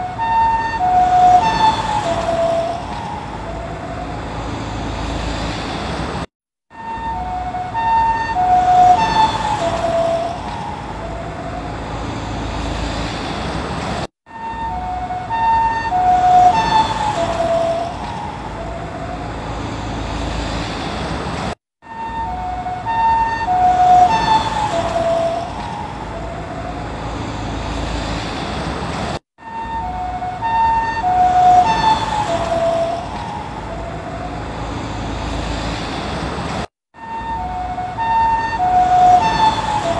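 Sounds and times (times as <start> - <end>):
two-tone ambulance siren passing: 0.0 - 5.9, 6.7 - 13.4, 14.3 - 20.7, 21.8 - 28.5, 29.4 - 36.2, 37.0 - 39.9
road noise: 0.0 - 39.9.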